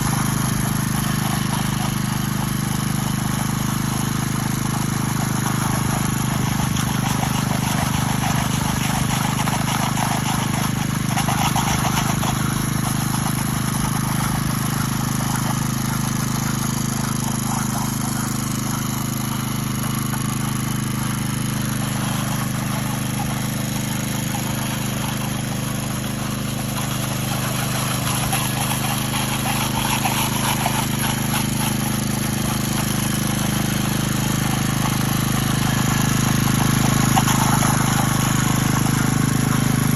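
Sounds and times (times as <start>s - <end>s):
power trowel engine humming: 0.0s - 39.9s.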